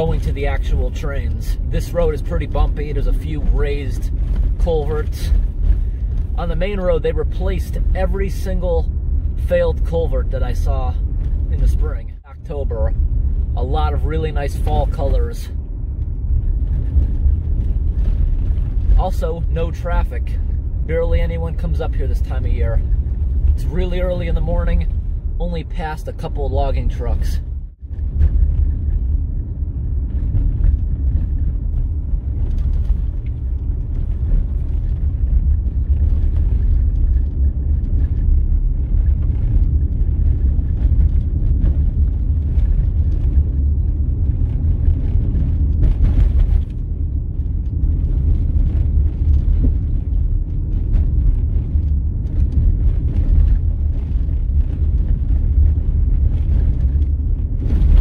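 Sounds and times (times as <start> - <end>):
tyres rumbling on gravel: 0.0 - 58.0.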